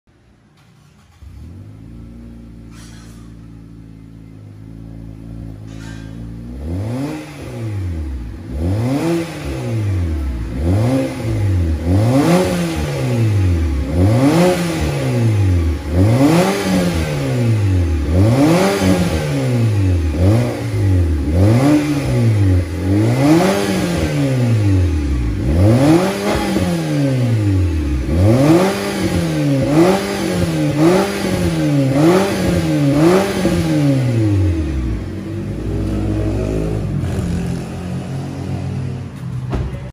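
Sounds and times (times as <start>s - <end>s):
car engine revving: 0.6s - 39.3s.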